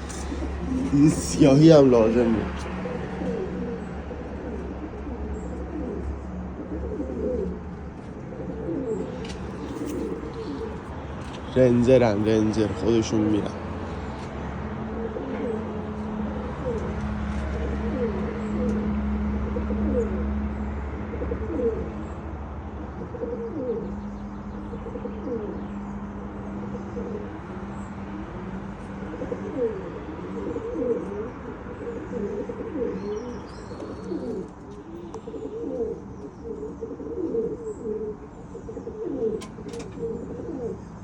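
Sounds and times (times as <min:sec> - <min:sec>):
pigeons cooing: 0:00.0 - 0:41.0.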